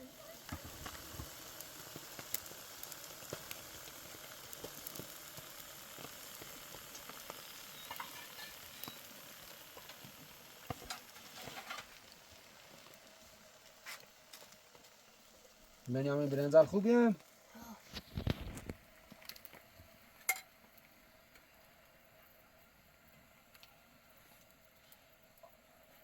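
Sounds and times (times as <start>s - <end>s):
crackles and sharp clicks: 0.0s - 26.0s
faint sizzling: 0.0s - 26.0s.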